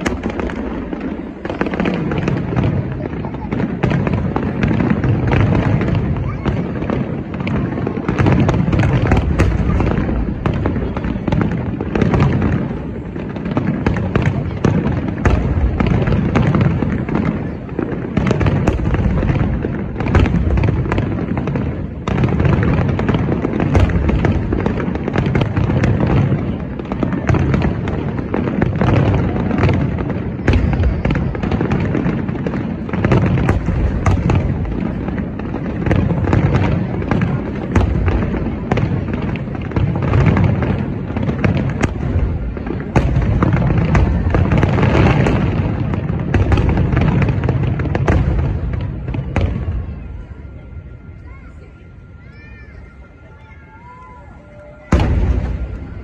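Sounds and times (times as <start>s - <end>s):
fireworks booming and crackling: 0.0s - 56.0s.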